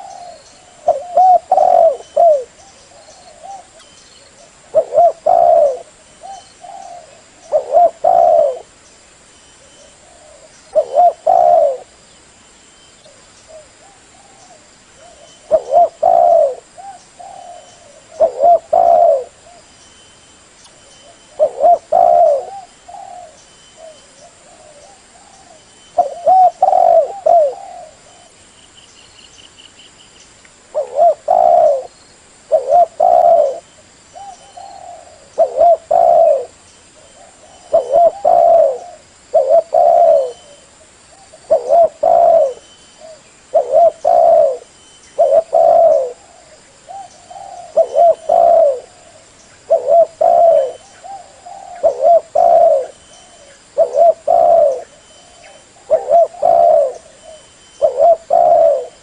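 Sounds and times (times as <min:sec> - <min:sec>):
dove cooing: 0:00.0 - 0:08.7, 0:09.6 - 0:12.0, 0:13.1 - 0:19.7, 0:21.0 - 0:28.4, 0:30.7 - 0:59.0.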